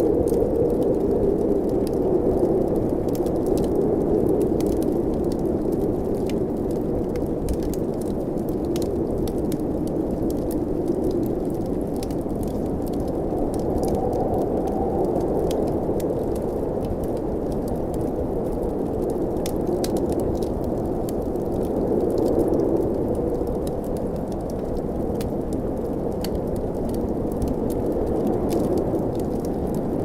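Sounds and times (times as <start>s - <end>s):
blizzard wind howling: 0.0s - 30.0s
wood fire crackling: 0.0s - 30.0s.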